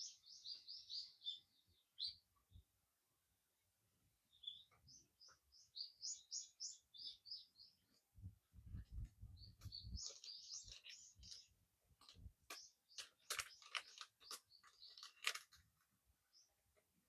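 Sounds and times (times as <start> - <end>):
small birds chirping: 0.0 - 2.6, 4.3 - 16.8.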